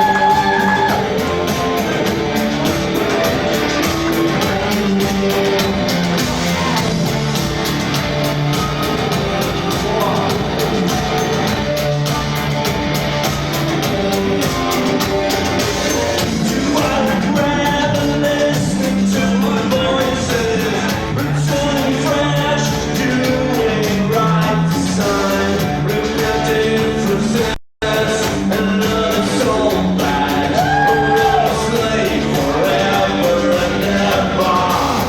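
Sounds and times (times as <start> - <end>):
person singing: 0.0 - 12.3, 14.4 - 35.0
loud live band music: 0.0 - 35.0.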